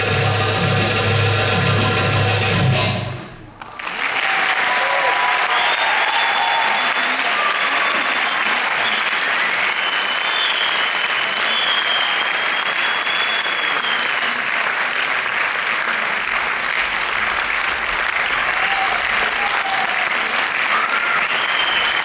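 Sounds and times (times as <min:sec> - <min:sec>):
audience applauding: 0:03.4 - 0:22.0.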